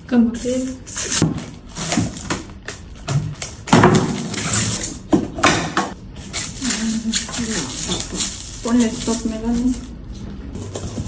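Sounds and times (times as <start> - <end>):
handling rustles and knocks: 0.7 - 11.0.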